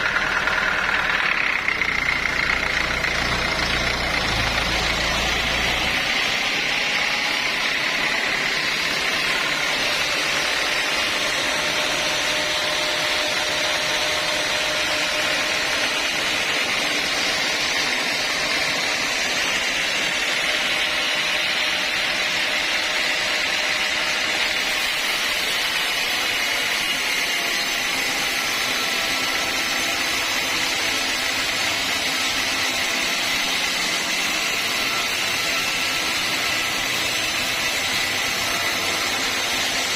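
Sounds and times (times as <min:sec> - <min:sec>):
saw cutting log whine: 0:00.0 - 0:39.9.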